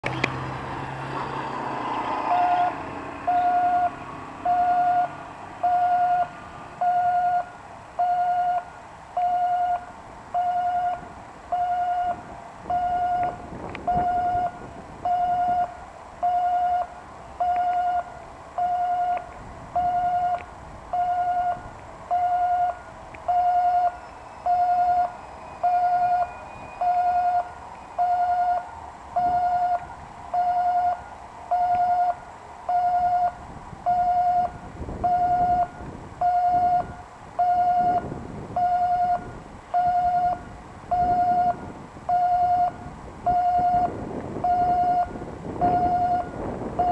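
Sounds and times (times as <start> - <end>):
level crossing beeping alarm: 2.3 - 19.2, 19.8 - 38.0, 38.6 - 46.9.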